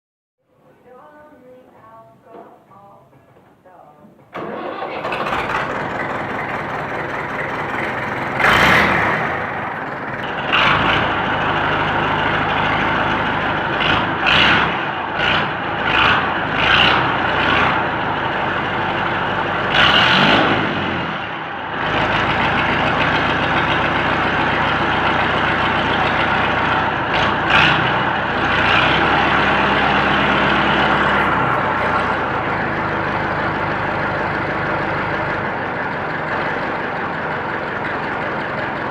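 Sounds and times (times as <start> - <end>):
tractor engine idling with throttle blips: 4.3 - 38.9.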